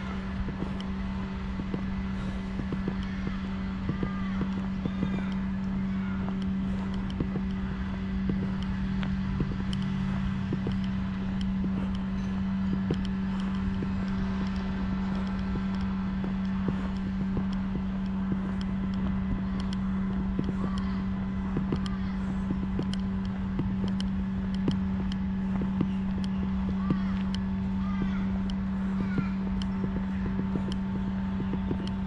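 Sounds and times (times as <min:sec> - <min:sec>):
light clicks and ticks: 0:00.0 - 0:32.0
steady low hum: 0:00.0 - 0:32.0.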